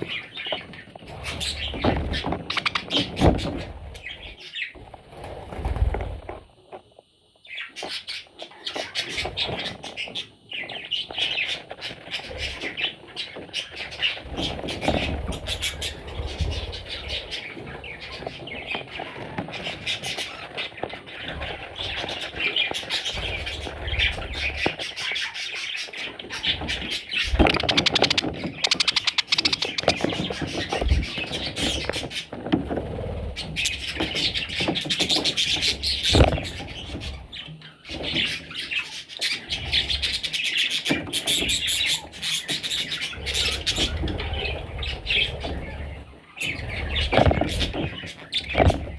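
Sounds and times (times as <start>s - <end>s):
budgerigars chirping: 0.0s - 4.8s, 7.5s - 32.3s, 33.2s - 48.9s.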